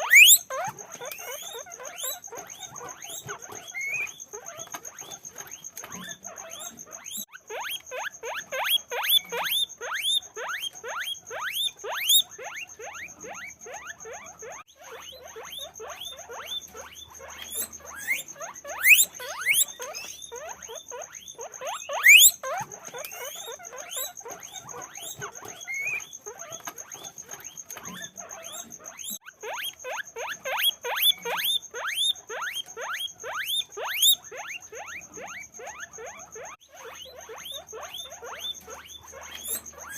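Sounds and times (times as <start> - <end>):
guinea pigs squeaking: 0.0 - 39.9.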